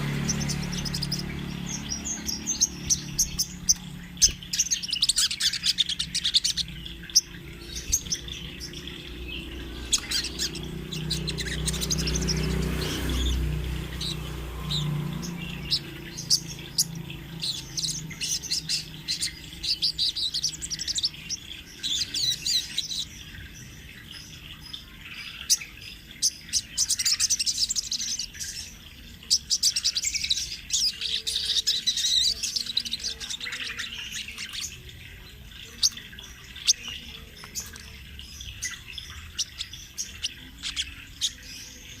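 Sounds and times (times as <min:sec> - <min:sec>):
sunbird singing high chirps and trills: 0:00.0 - 0:42.0.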